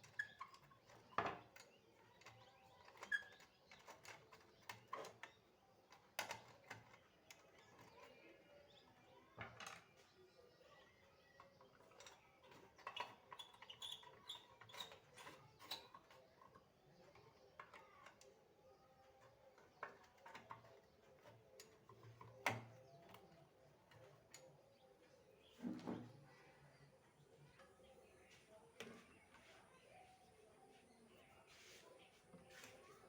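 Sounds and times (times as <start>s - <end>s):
faint clicks and taps: 0.0s - 33.0s.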